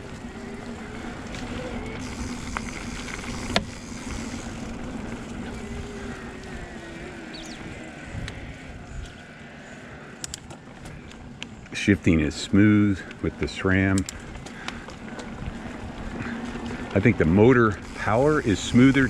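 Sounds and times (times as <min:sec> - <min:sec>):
faint electric motor hum: 0:00.0 - 0:19.0
tyres rolling over dirt: 0:00.0 - 0:19.0.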